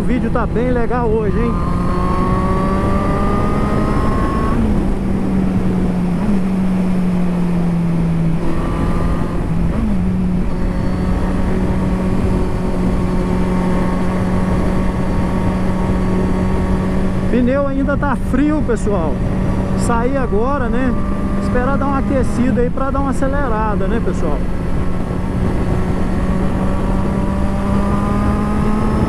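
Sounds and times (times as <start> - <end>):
motorcycle engine running: 0.0 - 29.0
wind noise: 0.0 - 29.0.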